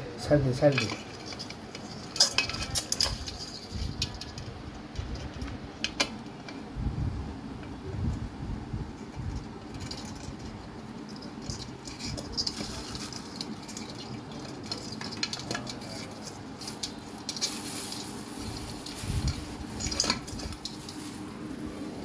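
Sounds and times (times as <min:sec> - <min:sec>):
crab legs clicking on hard surface: 0:00.5 - 0:06.7, 0:09.4 - 0:21.4.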